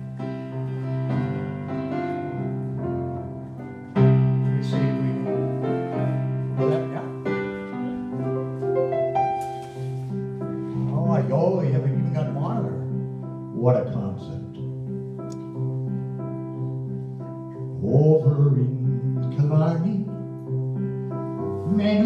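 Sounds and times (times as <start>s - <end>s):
electric piano chords: 0.0s - 22.0s.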